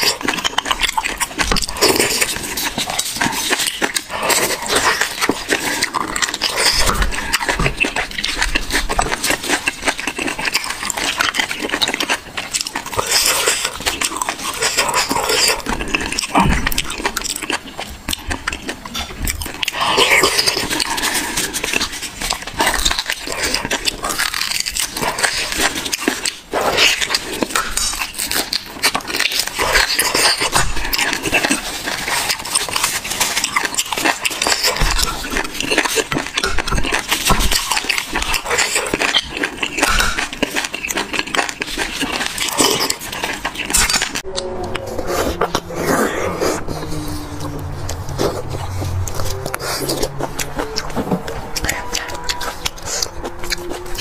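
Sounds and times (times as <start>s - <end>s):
wet chewing and slurping: 0.0s - 54.0s.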